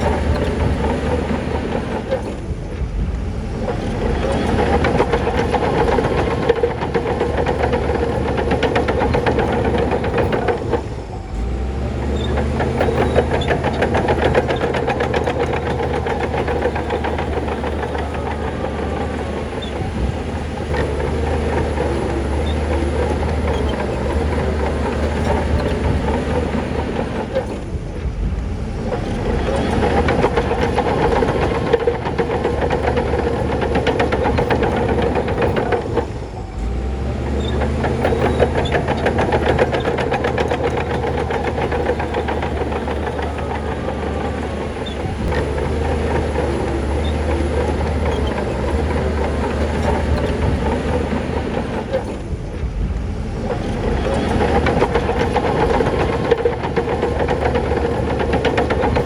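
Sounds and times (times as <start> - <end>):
diesel engine running: 0.0 - 59.0
steel tracks clattering: 0.0 - 59.0.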